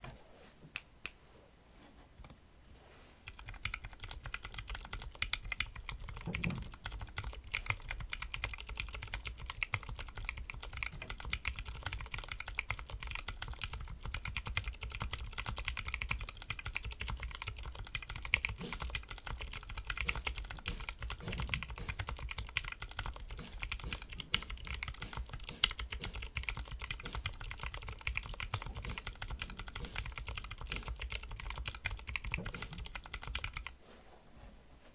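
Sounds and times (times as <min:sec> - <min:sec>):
typing on mechanical keyboard: 0:03.3 - 0:33.7.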